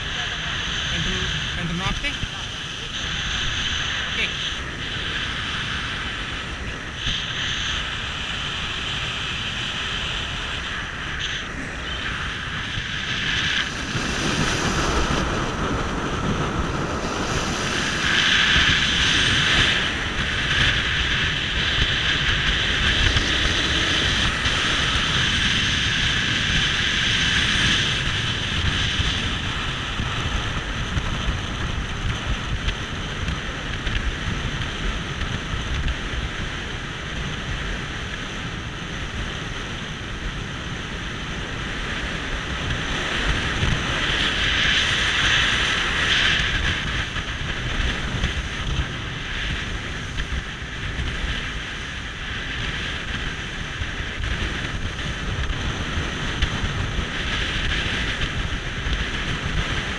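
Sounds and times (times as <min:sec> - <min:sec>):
motorboat engine running: 0:00.0 - 0:59.9
wind buffeting microphone: 0:00.0 - 0:59.9.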